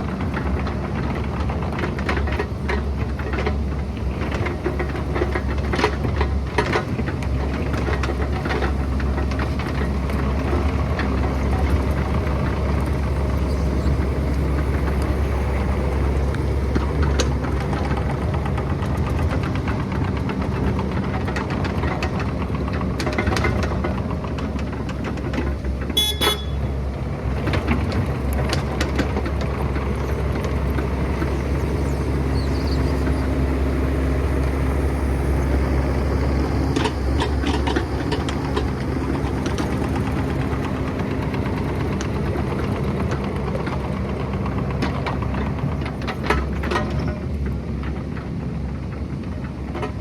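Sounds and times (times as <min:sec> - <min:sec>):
diesel engine running: 0:00.0 - 0:50.0
knocks and clanks: 0:00.1 - 0:48.4.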